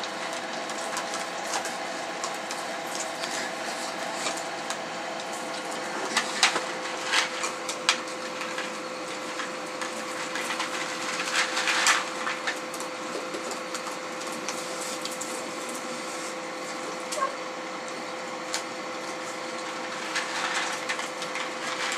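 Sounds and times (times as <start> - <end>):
animals crunching dry food: 0.0 - 17.3, 17.9 - 21.9
steady background hum: 0.0 - 21.9.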